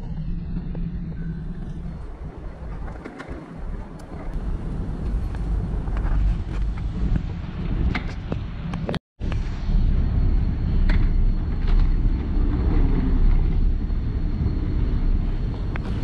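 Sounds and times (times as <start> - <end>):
escalator rumbling: 0.0 - 16.0.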